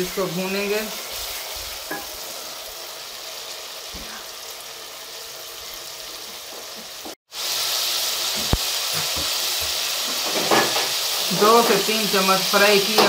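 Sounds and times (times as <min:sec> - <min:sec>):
spices sizzling in ghee: 0:00.0 - 0:13.0.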